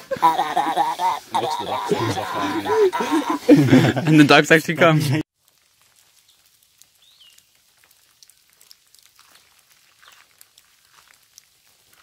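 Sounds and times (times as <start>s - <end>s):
rain dripping on leaves: 0.1s - 3.9s, 5.3s - 12.0s.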